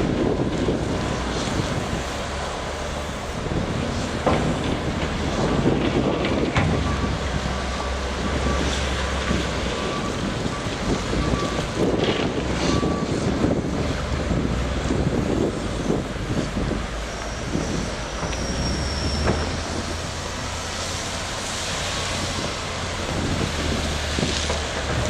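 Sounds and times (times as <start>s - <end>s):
heavy machinery engine rumble: 0.0s - 25.0s
wind buffeting microphone: 0.0s - 25.0s.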